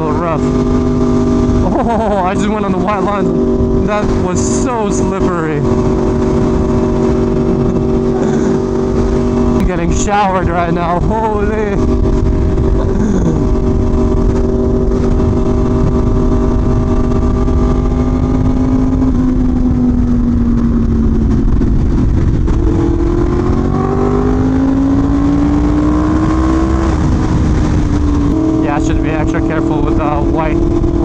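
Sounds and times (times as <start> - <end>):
motorcycle engine running: 0.0 - 31.0
wind and road noise: 0.0 - 31.0.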